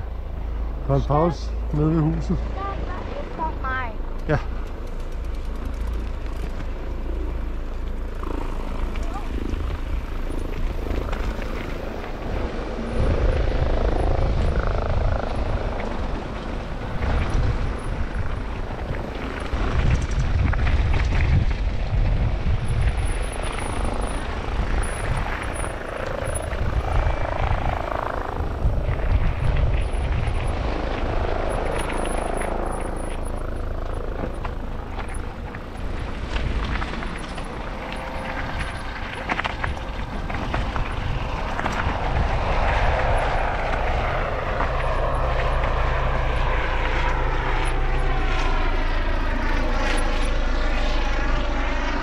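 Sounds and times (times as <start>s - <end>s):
wind buffeting microphone: 0.0s - 52.0s
bike tyres rumbling on trail: 1.2s - 51.0s.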